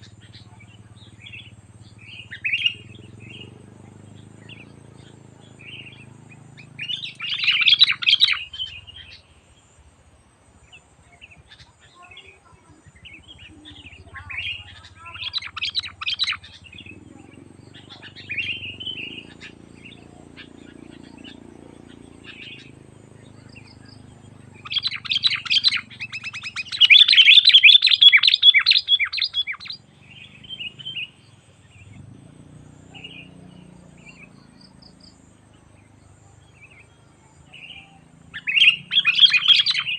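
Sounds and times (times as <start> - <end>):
bird singing chattering notes: 0.0 - 9.8, 10.6 - 39.9.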